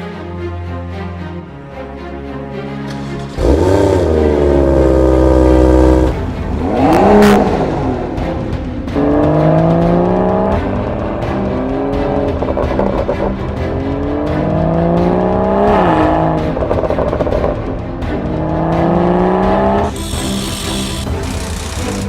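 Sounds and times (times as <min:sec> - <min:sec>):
background music: 0:00.0 - 0:22.0
car engine revving: 0:02.9 - 0:17.6, 0:18.3 - 0:22.0.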